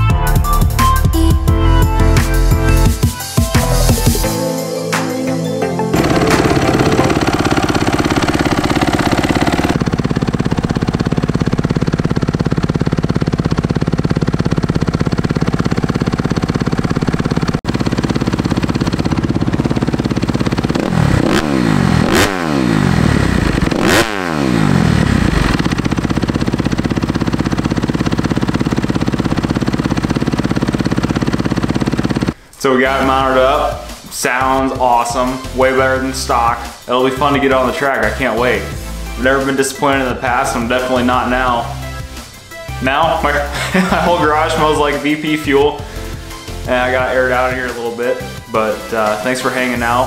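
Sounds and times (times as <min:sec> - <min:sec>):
motorcycle engine idling and revving: 0:05.9 - 0:32.4, 0:35.2 - 0:50.0.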